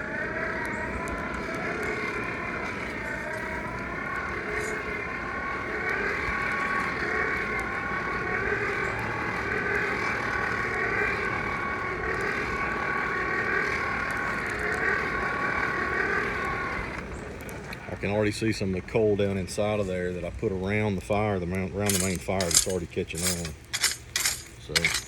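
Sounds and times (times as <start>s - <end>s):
forge air blower whine: 0.0s - 25.0s.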